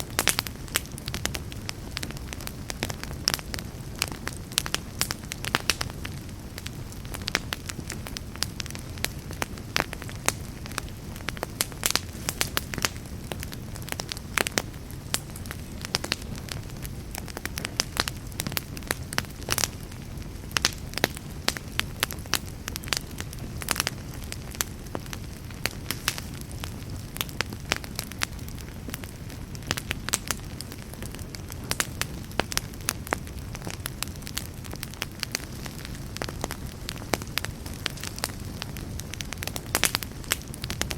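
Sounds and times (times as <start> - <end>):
fireplace fire crackling: 0.0 - 40.9
low rumble of flame: 0.0 - 40.9.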